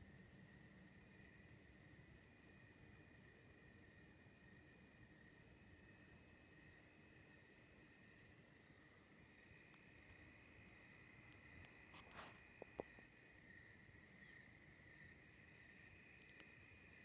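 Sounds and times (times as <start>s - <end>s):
crickets trilling: 0.0s - 17.0s
insect chirp: 0.0s - 17.0s.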